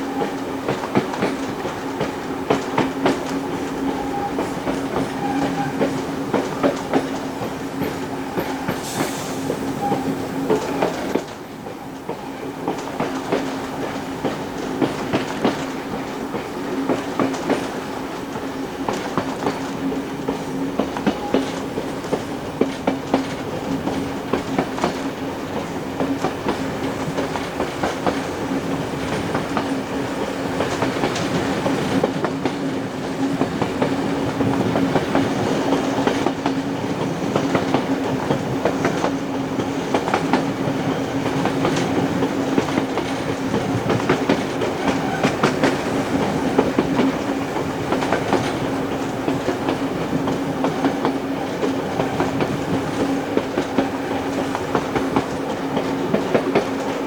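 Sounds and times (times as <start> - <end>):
continuous train rumble: 0.0 - 57.0
train wheels clicking over rail joints: 0.0 - 57.0.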